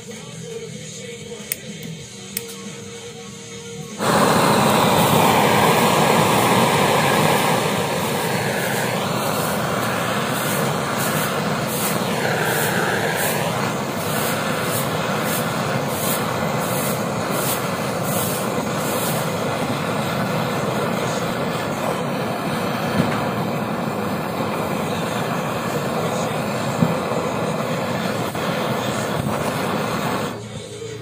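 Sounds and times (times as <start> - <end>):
blow torch hissing: 3.9 - 30.6.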